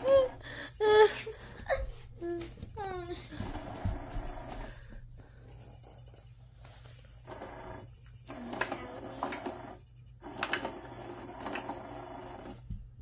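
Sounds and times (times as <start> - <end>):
toy motor whining and clicking: 0.0 - 12.7.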